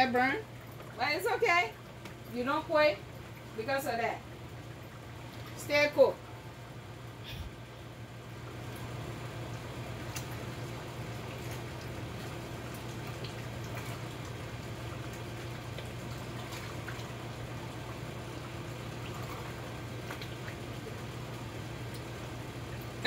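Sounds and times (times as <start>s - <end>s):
sauce bubbling in a pot: 0.0s - 2.4s, 6.1s - 23.0s
steady low hum: 0.0s - 23.0s.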